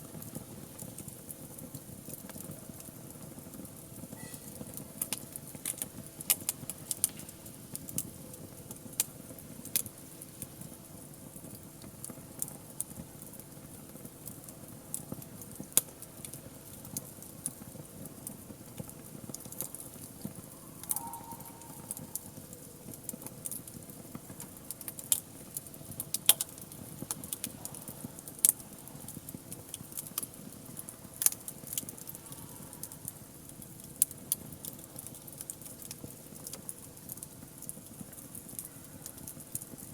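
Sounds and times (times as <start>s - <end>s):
low steady hiss: 0.0s - 39.9s
wood fire crackling: 0.0s - 39.9s.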